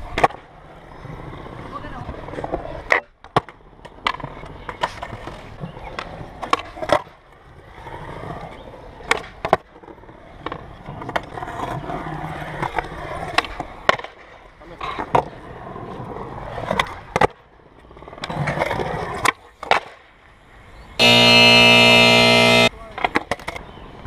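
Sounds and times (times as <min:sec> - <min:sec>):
skateboard wheels rolling on concrete: 0:00.0 - 0:20.9.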